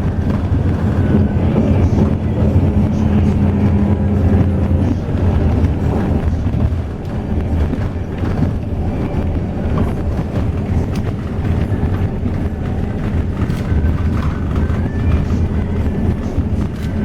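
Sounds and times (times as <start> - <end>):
bus engine and tyres rumbling: 0.0 - 17.0.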